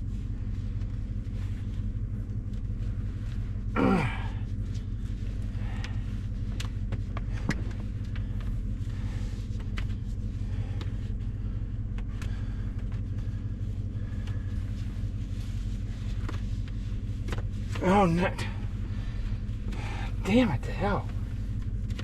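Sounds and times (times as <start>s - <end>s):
engine idling: 0.1s - 22.0s.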